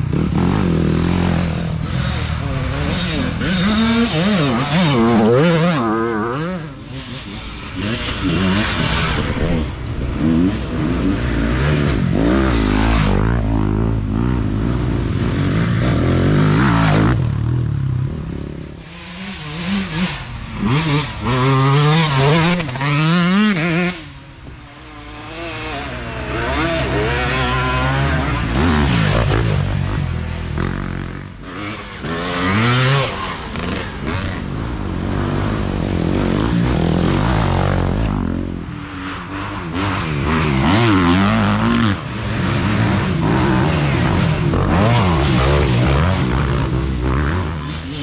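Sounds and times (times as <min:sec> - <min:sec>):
dirt bikes revving past: 0:00.0 - 0:48.0.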